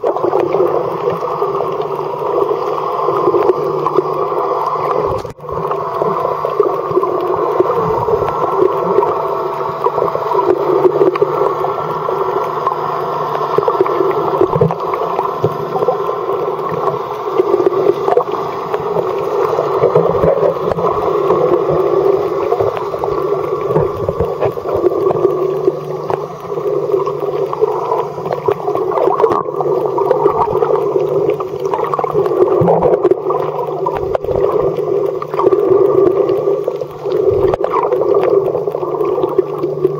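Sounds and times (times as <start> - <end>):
underwater droning hum: 0.0 - 39.9
water noise: 0.0 - 39.9.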